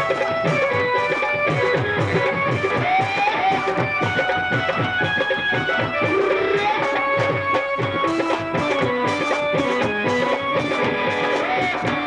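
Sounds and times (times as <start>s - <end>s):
held melody lines: 0.0s - 12.0s
quick steady drum beat: 0.0s - 12.0s.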